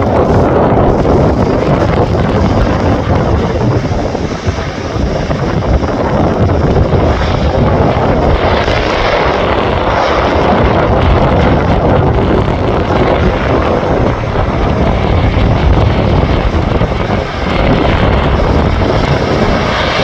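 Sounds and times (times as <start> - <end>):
turboprop engines running: 0.0 - 20.0
wind buffeting microphone: 0.0 - 20.0.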